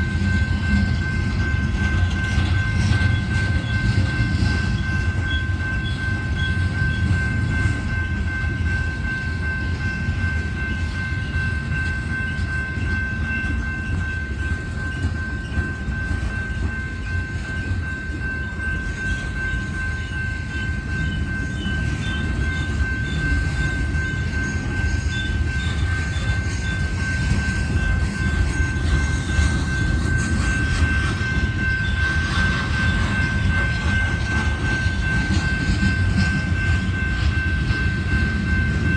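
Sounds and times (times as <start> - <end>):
train cars rolling on rails: 0.0 - 38.9.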